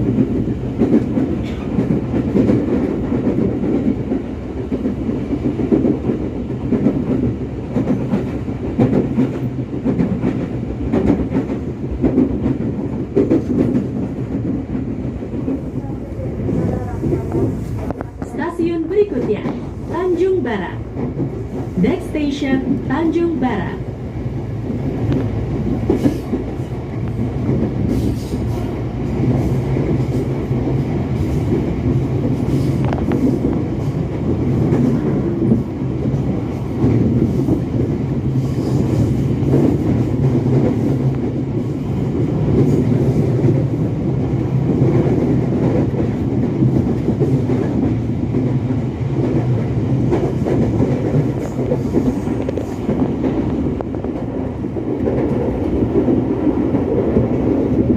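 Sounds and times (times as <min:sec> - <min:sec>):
train rumble from inside: 0:00.0 - 0:57.9.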